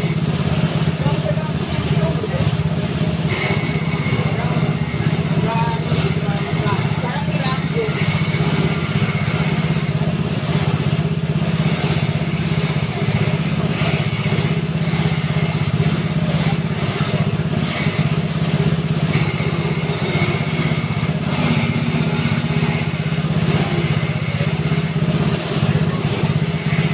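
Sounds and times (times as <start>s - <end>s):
grinding machine engine chugging: 0.0s - 26.9s.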